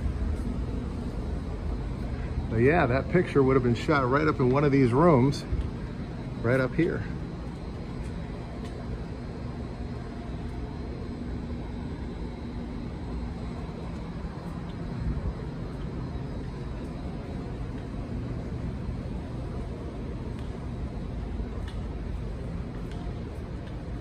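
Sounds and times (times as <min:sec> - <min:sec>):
distant street traffic rumble: 0:00.0 - 0:24.0
faint engine hum: 0:00.0 - 0:24.0.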